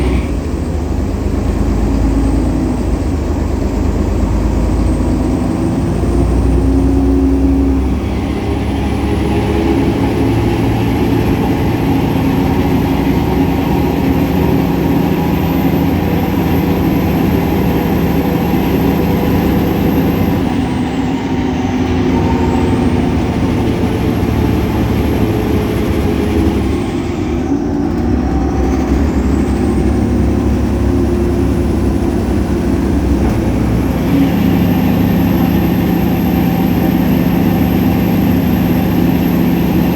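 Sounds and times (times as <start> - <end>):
bus diesel engine running: 0.0 - 39.9
high belt whine: 3.7 - 39.9.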